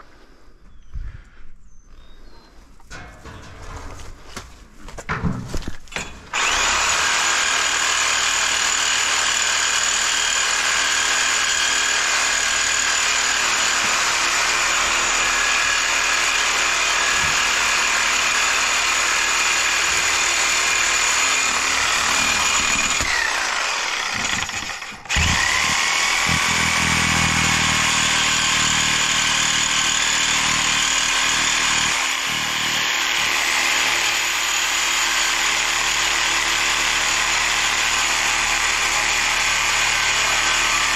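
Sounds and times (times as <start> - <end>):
power tool cutting metal: 6.0 - 40.9.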